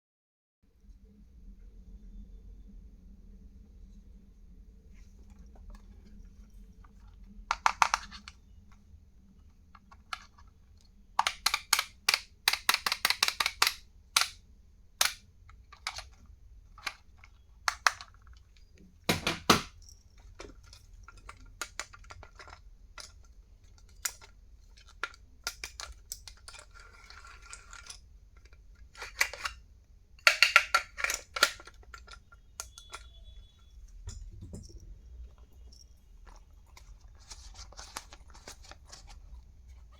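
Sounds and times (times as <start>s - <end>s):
plastic items clicking and tapping: 5.2s - 14.4s, 15.0s - 39.9s.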